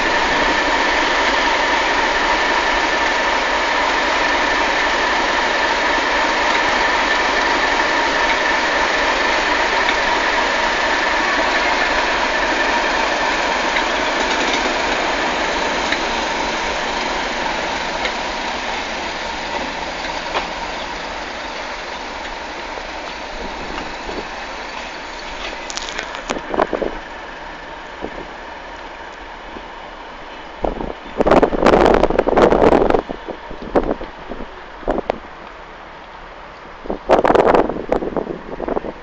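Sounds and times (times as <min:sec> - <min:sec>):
diesel locomotive engine whine: 0:00.0 - 0:39.0
wheels clicking over rail joints: 0:00.0 - 0:39.0.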